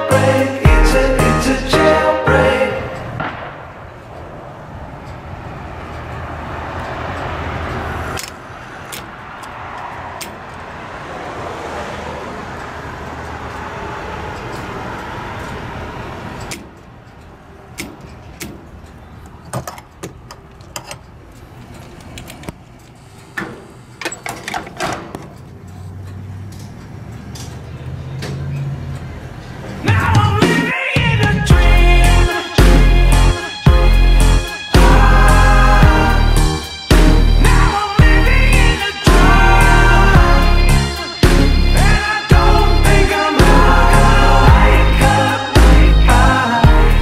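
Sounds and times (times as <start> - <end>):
car road and engine noise: 0.0 - 47.0.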